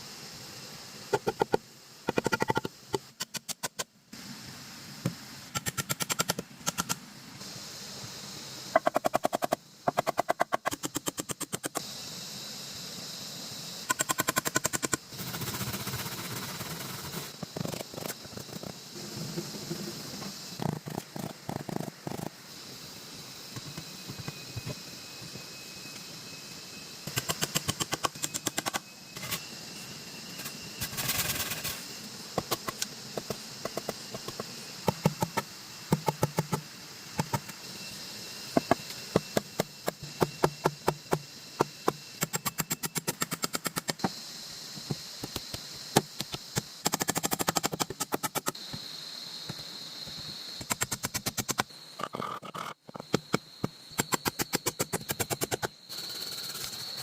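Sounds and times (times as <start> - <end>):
steady high-pitched hum: 0.0 - 57.0.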